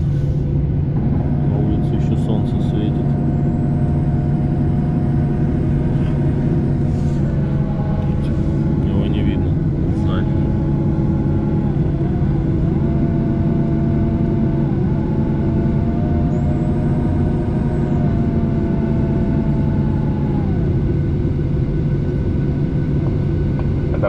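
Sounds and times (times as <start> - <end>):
jet engine low hum: 0.0 - 24.0
jet engine whine: 0.0 - 24.0.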